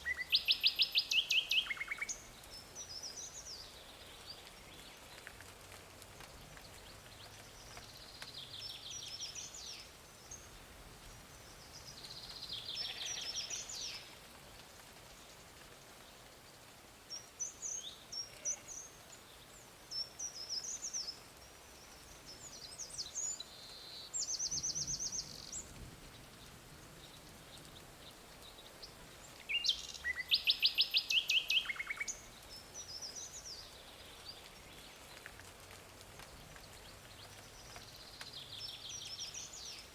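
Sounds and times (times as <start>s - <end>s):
faint outdoor background noise: 0.0s - 39.9s
songbirds chirping and trilling: 0.0s - 39.9s.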